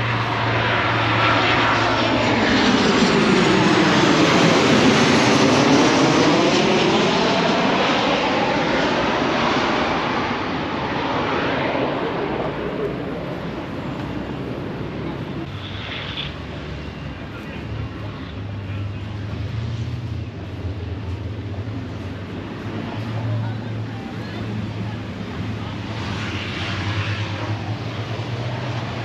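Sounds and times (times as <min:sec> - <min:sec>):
airplane passing overhead: 0:00.0 - 0:29.0.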